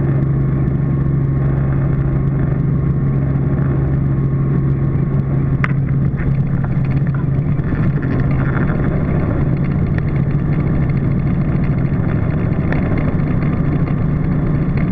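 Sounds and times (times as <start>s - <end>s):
helicopter engine and rotor drone: 0.0s - 14.9s.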